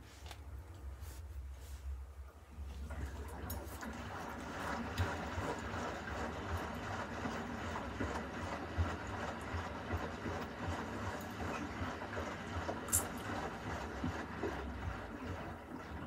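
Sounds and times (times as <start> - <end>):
washing machine drum tumbling: 2.9 - 16.0.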